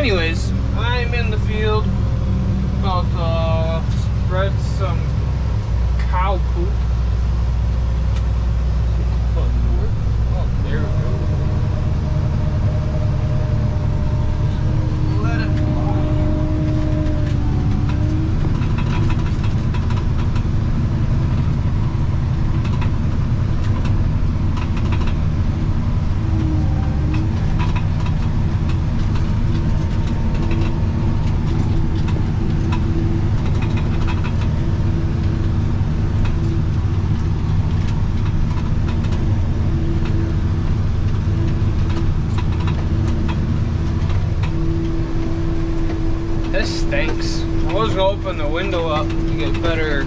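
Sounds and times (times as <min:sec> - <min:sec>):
tractor engine droning: 0:00.0 - 0:50.0.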